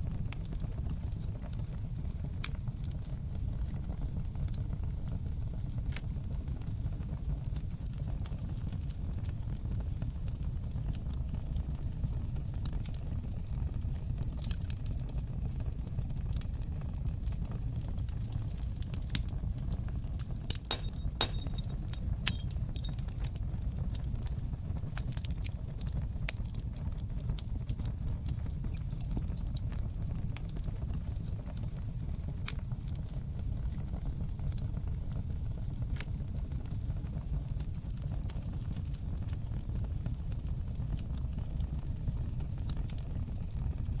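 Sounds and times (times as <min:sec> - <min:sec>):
fire crackles and pops: 0:00.0 - 0:44.0
fire rumbling in fireplace: 0:00.0 - 0:44.0.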